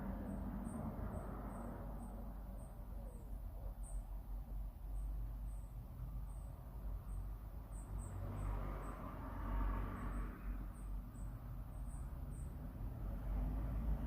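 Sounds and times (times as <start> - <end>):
road vehicle passing: 0.0 - 3.5, 6.0 - 14.0.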